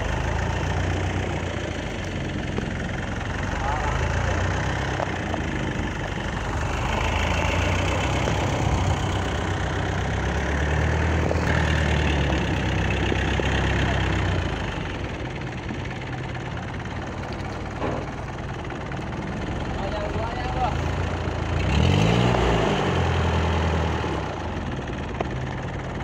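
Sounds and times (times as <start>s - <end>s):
boat engine idling: 0.0s - 21.8s, 22.8s - 26.0s.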